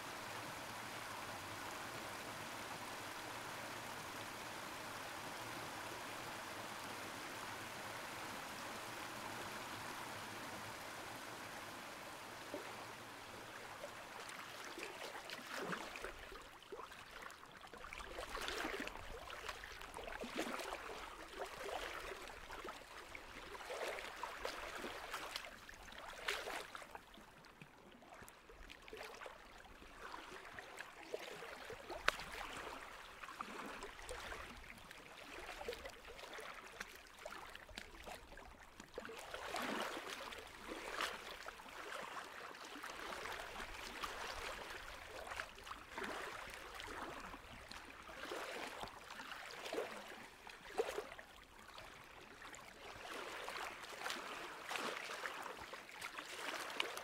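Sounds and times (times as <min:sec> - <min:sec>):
water lapping and gurgling: 0:00.0 - 0:57.0.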